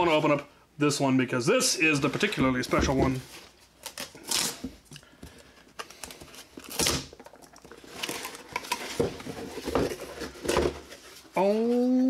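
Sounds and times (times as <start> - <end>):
cardboard rustling: 1.8 - 11.5.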